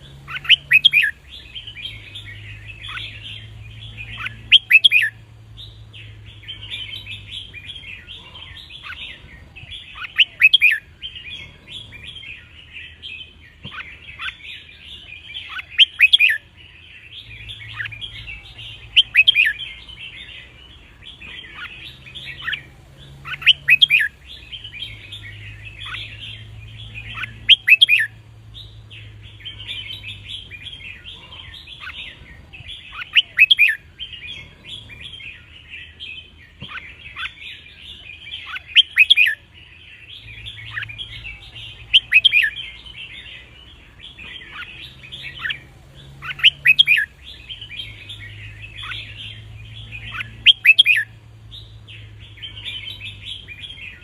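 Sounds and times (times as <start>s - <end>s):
bird chirping chatter: 0.0s - 54.0s.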